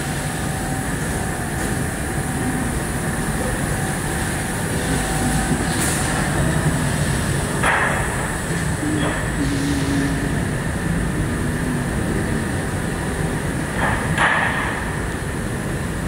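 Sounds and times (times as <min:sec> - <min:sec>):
factory machinery rumble and hum: 0:00.0 - 0:16.0.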